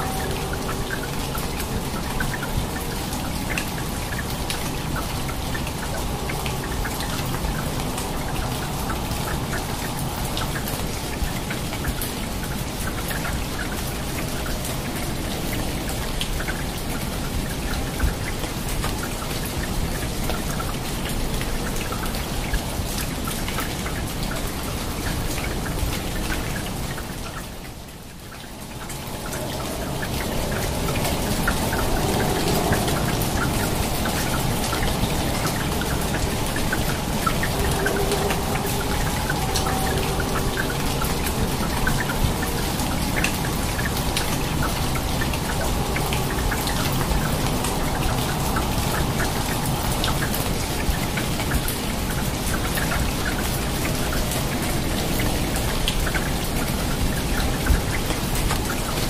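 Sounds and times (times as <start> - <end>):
rain falling on foliage: 0.0 - 59.0
raindrops striking close by: 0.0 - 59.0.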